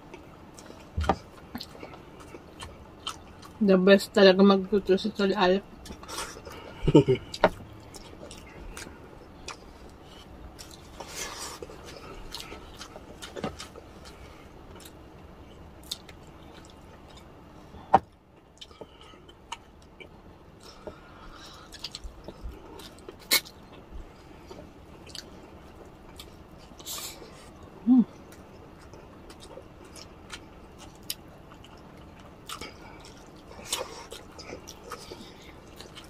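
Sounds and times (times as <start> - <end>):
chewing and wet mouth noises: 0.0 - 3.6, 5.7 - 36.0.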